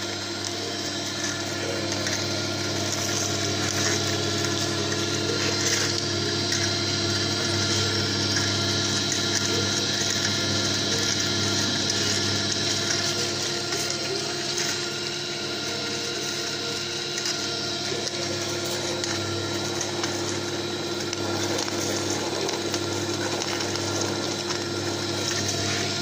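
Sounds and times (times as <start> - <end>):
oil press motor humming: 0.0 - 26.0.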